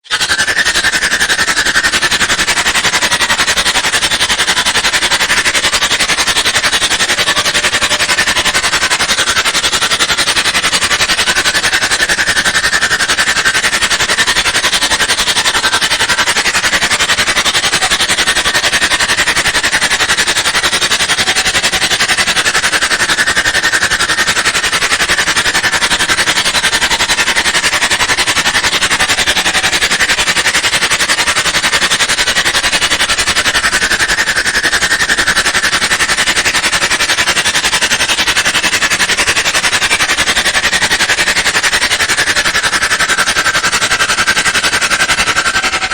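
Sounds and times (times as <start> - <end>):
scratchy scrubbing noise: 0.0 - 45.9.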